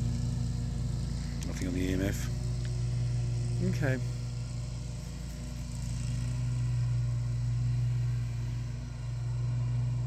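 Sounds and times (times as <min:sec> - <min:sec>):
lawnmower engine droning: 0:00.0 - 0:10.0.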